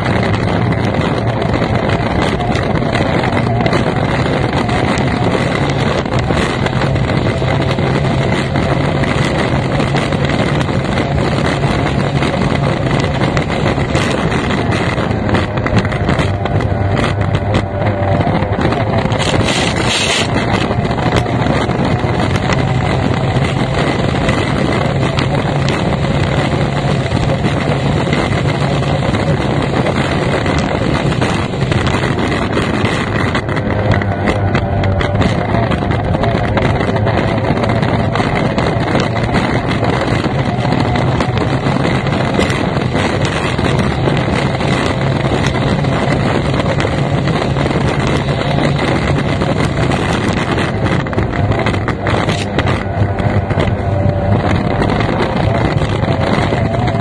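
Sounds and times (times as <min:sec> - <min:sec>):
powerboat engine running hard: 0:00.0 - 0:57.0
wind buffeting microphone: 0:00.0 - 0:57.0.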